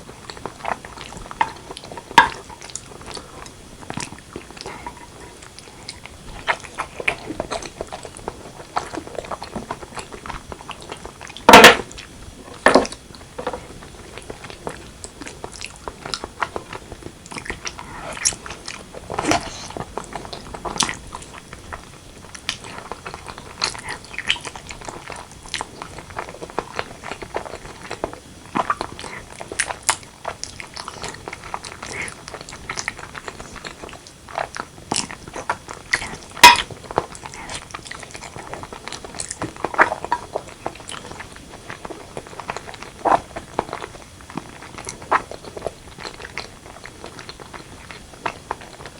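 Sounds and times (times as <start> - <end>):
chewing and biting food: 0.0 - 48.9.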